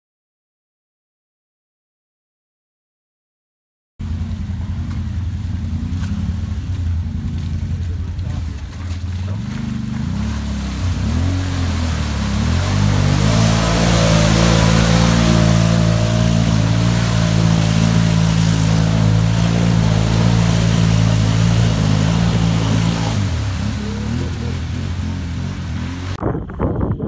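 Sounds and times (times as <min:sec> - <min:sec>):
mud and water splashing: 0:04.0 - 0:26.2
quad engine revving: 0:04.0 - 0:26.2.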